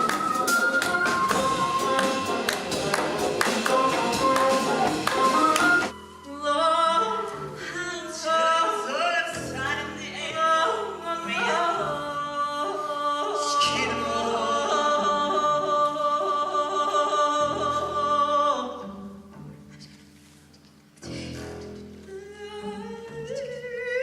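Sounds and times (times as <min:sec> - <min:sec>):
music: 0:00.0 - 0:24.0.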